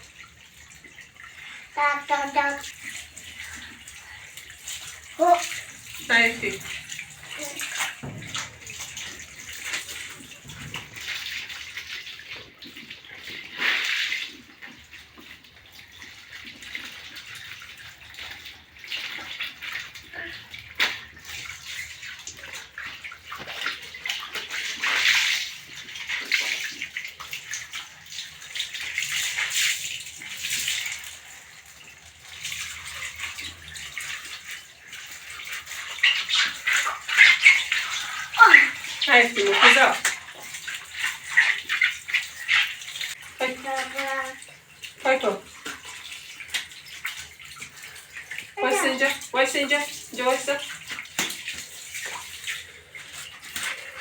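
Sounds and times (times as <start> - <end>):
water splashing in a bathtub: 0.0 - 54.0.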